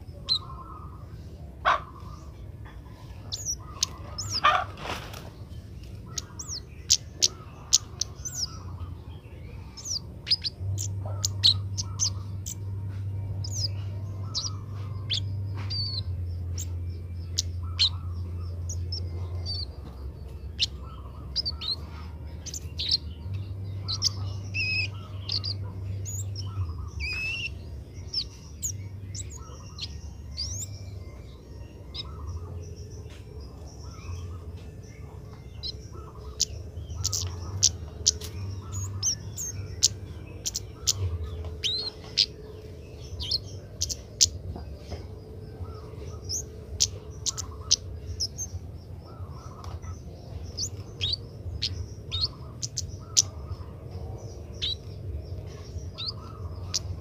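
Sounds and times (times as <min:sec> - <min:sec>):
bird chirping: 0:00.0 - 0:57.0
steady low hum: 0:00.0 - 0:57.0.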